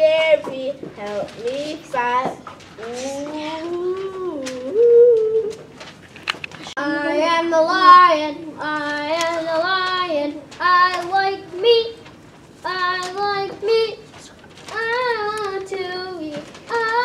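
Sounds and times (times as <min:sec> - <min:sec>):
child singing: 0:00.0 - 0:05.6, 0:06.8 - 0:17.0.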